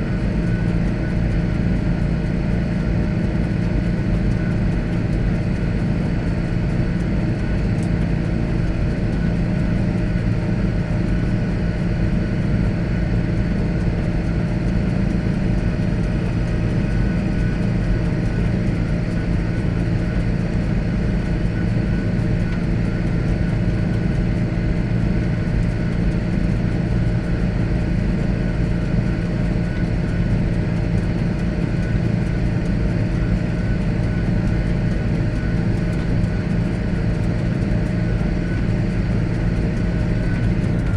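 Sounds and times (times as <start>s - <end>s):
tractor diesel engine running: 0.1s - 40.9s.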